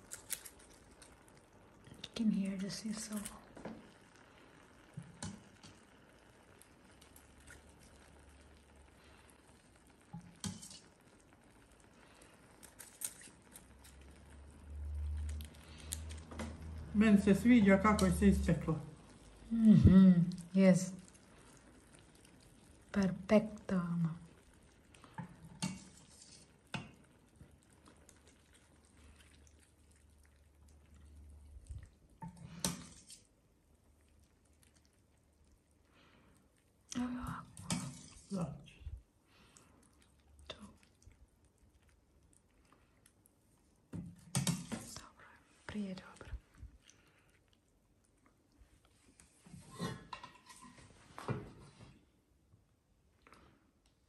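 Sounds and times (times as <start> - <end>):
syrup sizzling on pastry: 0.0 - 54.0.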